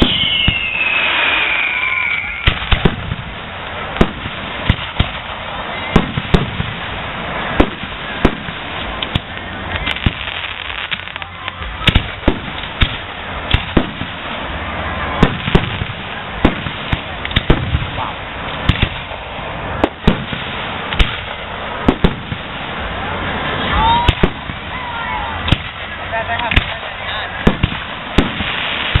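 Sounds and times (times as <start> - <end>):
firework shells bursting: 0.0 - 14.5, 15.2 - 24.6, 25.4 - 29.0
background hiss: 0.0 - 29.0.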